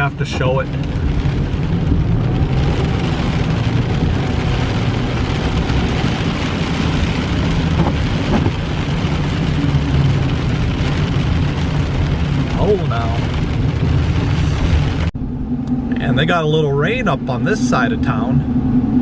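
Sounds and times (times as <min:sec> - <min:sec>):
car engine and road drone: 0:00.0 - 0:19.0.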